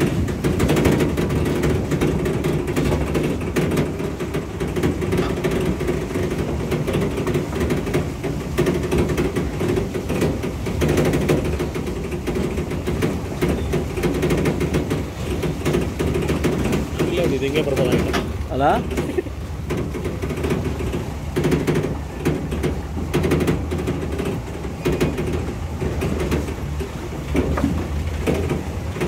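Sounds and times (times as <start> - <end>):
knocks and rattles: 0.0 - 29.0
vehicle engine and road noise: 0.0 - 29.0.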